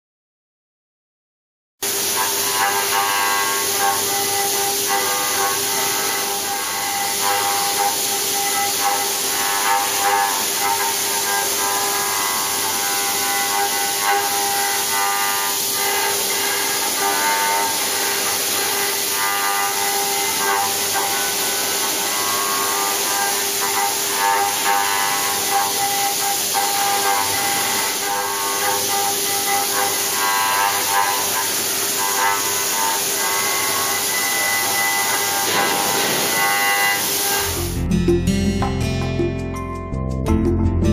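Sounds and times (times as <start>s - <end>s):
machine spindle cutting whine: 1.8s - 37.9s.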